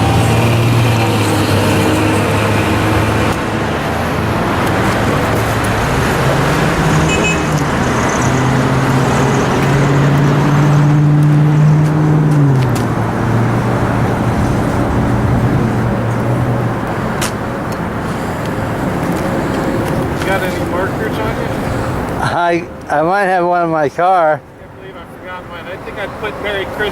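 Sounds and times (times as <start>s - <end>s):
deep engine drone: 0.0s - 22.2s
heavy road traffic roar: 0.0s - 26.9s.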